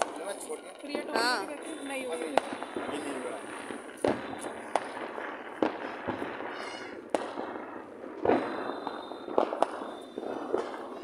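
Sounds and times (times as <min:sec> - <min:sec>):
continuous crackle: 0:00.0 - 0:11.0
firecracker bangs: 0:00.0 - 0:11.0.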